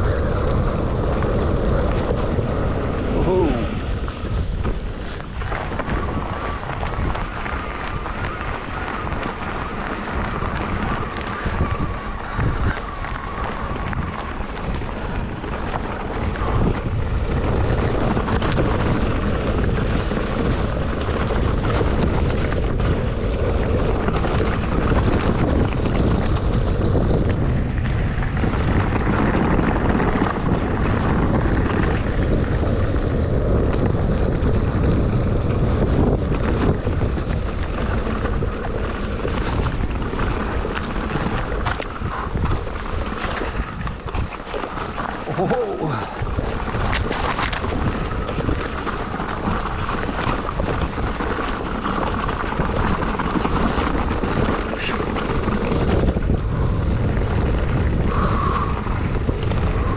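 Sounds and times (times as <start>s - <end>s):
bike tyres and frame rattling: 0.0s - 59.9s
wind buffeting microphone: 0.0s - 59.9s.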